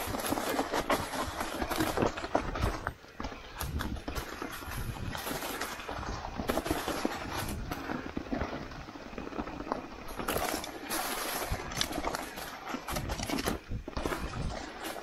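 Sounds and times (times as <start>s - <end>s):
bike rattling: 0.0s - 15.0s
tyres crunching through dry leaves: 0.0s - 15.0s.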